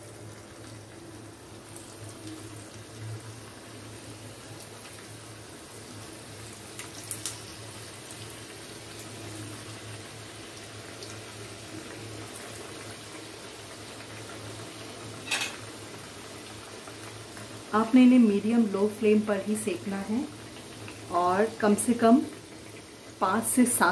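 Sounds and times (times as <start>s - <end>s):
dough sizzling in hot oil: 0.0s - 23.9s.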